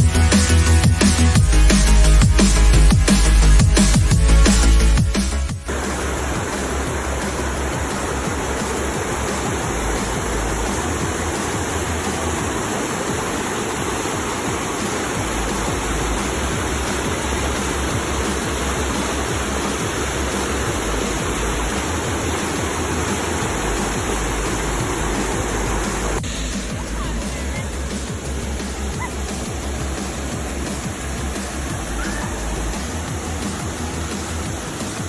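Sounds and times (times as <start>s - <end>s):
waterfall rushing: 5.7s - 35.0s.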